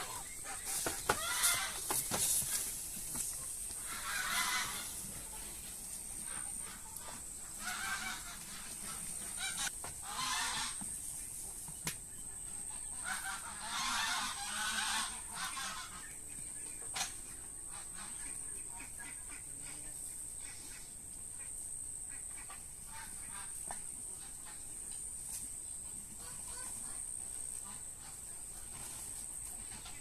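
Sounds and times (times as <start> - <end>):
farmyard birds calling: 0.0 - 30.0.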